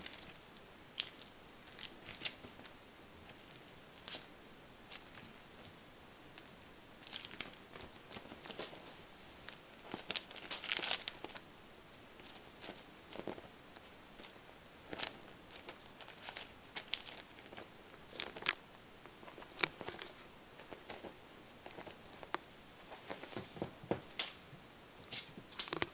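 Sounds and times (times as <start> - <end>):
kitten crinkling and rustling: 0.0 - 24.4, 25.0 - 25.9.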